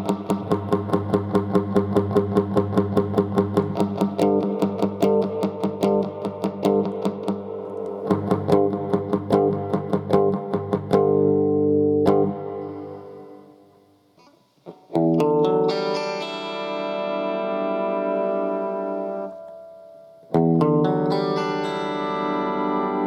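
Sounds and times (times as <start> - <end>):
electric guitar playing: 0.0 - 13.6, 14.2 - 23.0.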